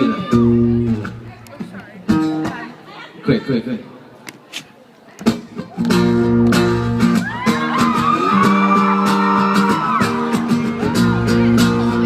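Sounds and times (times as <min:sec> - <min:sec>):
live band music with guitar: 0:00.0 - 0:02.8, 0:04.5 - 0:12.0.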